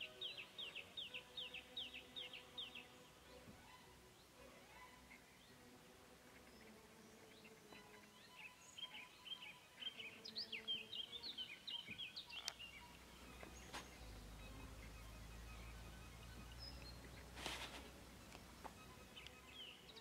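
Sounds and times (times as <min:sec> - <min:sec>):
pond-side ambience: 0:00.0 - 0:20.0
songbird chirping and twittering: 0:00.0 - 0:20.0.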